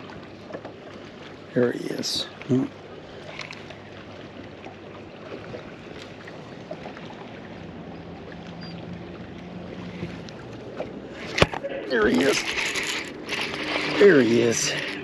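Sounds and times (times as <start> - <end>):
water around a boat: 0.0 - 15.0
wind: 0.0 - 15.0.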